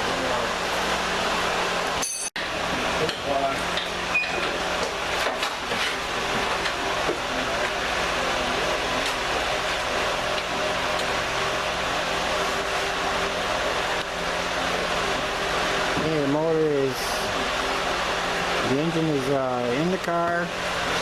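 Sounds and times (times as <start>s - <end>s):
mechanical hum and hiss: 0.0s - 21.0s.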